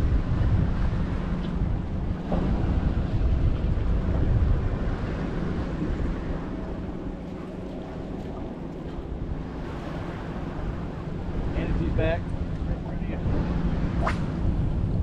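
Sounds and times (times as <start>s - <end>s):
water washing around boat: 0.0s - 15.0s
wind buffeting microphone: 0.0s - 15.0s.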